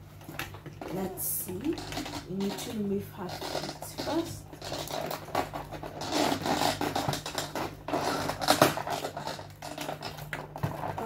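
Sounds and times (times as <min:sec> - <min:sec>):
plastic and cardboard packaging rustling: 0:00.0 - 0:11.0.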